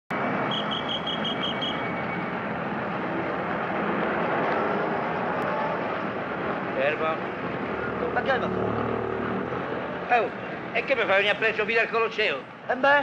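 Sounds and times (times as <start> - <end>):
city street traffic: 0.1 - 13.0
trolleybuses and cars passing: 0.1 - 13.0.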